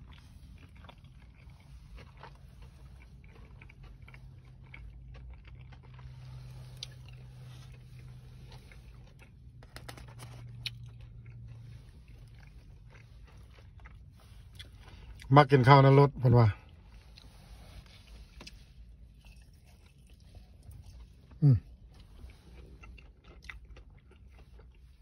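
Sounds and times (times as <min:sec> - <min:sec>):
soft crunches of breading: 0:00.0 - 0:15.9, 0:16.5 - 0:25.0
chewing fried chicken: 0:00.0 - 0:25.0.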